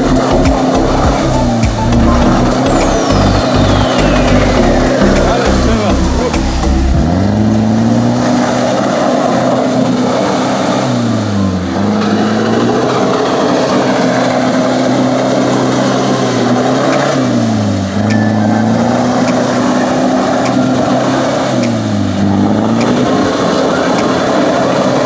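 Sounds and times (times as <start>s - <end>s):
diesel engine working hard: 0.0s - 25.0s.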